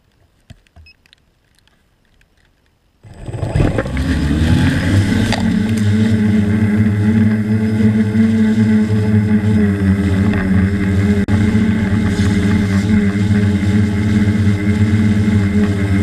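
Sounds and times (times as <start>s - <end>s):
drone propellers buzzing: 3.0s - 16.0s.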